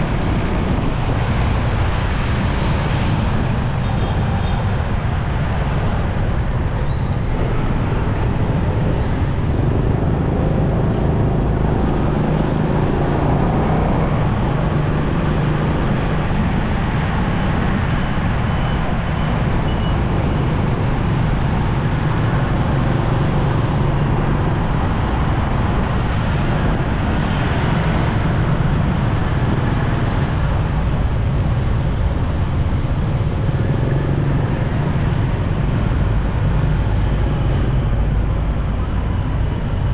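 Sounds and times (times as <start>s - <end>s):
traffic noise: 0.0s - 39.9s.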